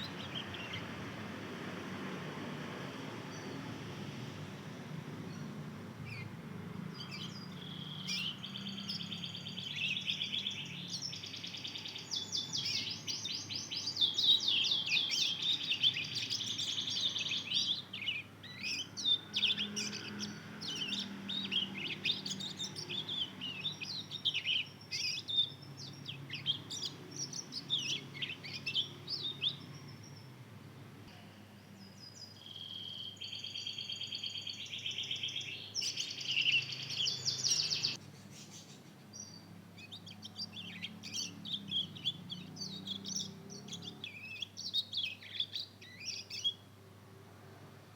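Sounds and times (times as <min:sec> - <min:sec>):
young bird twittering song: 0:00.0 - 0:01.3, 0:05.3 - 0:30.4, 0:31.6 - 0:46.7.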